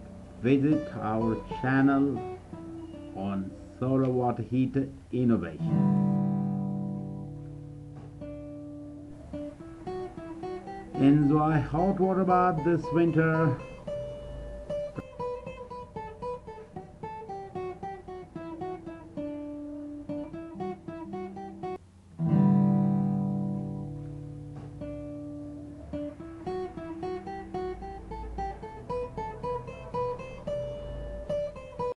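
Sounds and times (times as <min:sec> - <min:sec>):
plucked string instrument music: 0:00.0 - 0:32.0.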